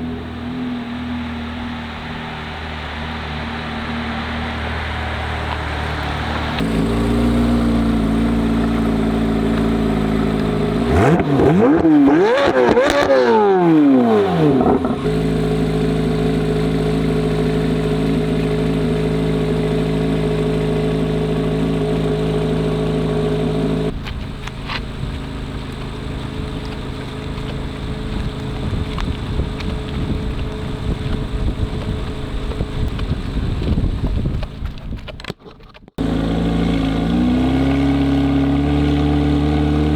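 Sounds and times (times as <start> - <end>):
sports car engine passing: 0.0 - 34.2, 36.0 - 39.9.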